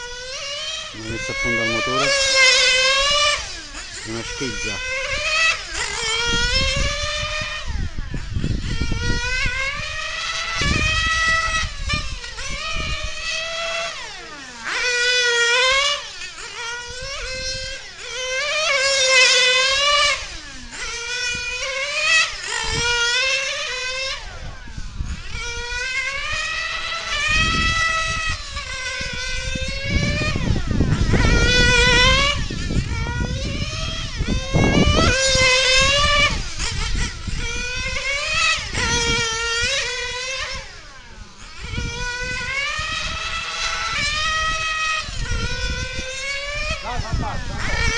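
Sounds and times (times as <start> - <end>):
rc car nitro engine revving: 0.0 - 47.9.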